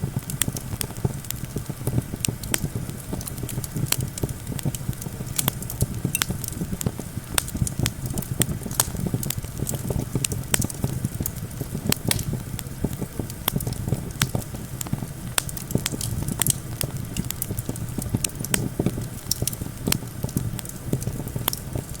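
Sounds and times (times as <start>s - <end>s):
campfire crackling and popping: 0.0s - 22.0s
low wind rumble: 0.0s - 22.0s.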